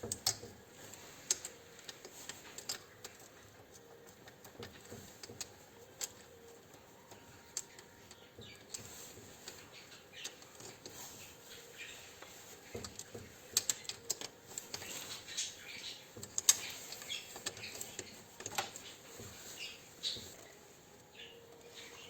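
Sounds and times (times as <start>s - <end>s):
faint clicks and light taps: 0.0s - 22.0s.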